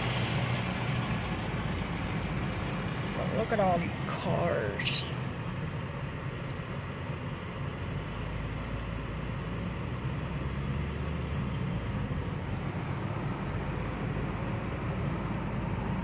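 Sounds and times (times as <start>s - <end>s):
tyres and engine rumbling: 0.0s - 16.0s.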